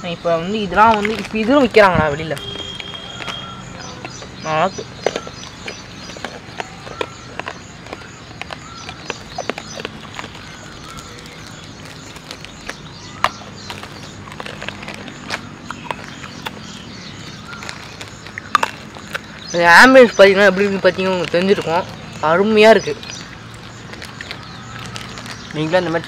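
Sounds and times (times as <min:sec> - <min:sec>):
steady background noise: 0:00.0 - 0:26.0
wrappers crinkling: 0:00.8 - 0:26.0.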